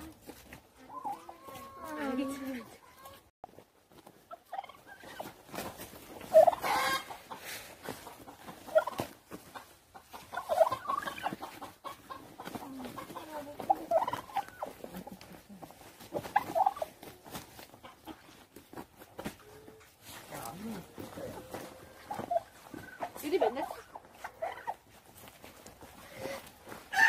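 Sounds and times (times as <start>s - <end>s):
scuffling and rustling on dirt: 0.0s - 27.0s
fowl clucking: 0.8s - 3.3s, 4.2s - 27.0s.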